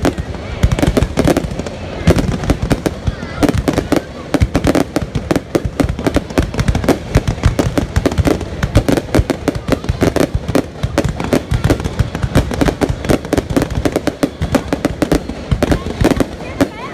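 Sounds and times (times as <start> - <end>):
fireworks bangs and crackles: 0.0 - 16.9.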